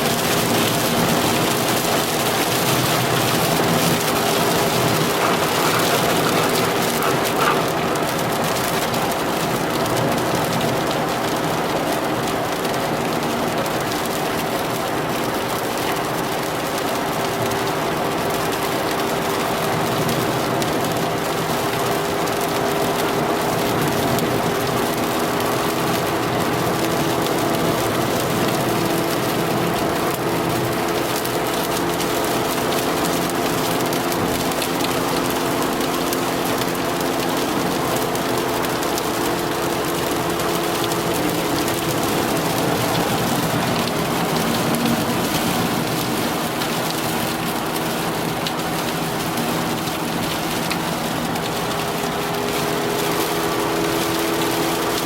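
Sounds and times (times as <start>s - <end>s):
car engine humming: 0.0s - 13.0s, 23.1s - 55.0s
heavy rain on a car: 0.0s - 55.0s.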